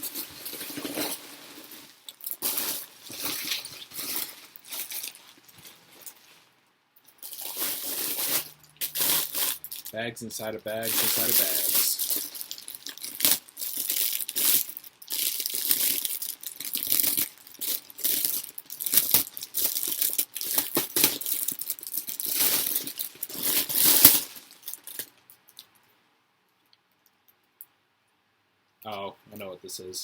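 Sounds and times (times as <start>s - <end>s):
plastic bags crinkling and tearing: 0.0s - 6.6s, 7.2s - 25.2s.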